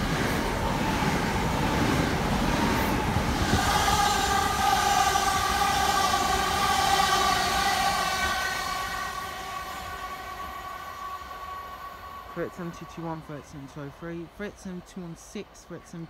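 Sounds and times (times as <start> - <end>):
train wheels rumbling on rails: 0.0 - 15.6.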